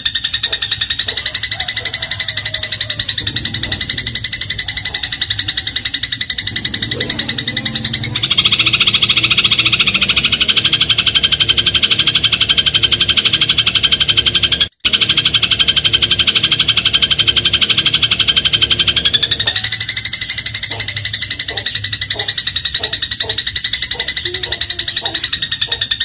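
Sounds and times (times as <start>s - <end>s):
sparrow rattling chatter: 0.0s - 26.0s.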